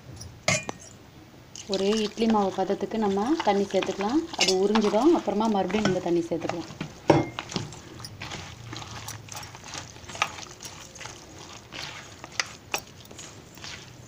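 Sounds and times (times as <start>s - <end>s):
hand squelching wet batter: 1.5s - 14.0s.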